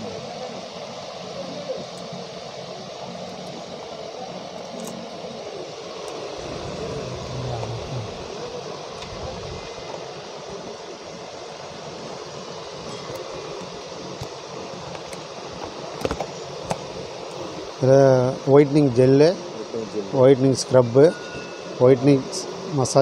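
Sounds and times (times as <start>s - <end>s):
fan-like hiss and hum: 0.0s - 23.0s.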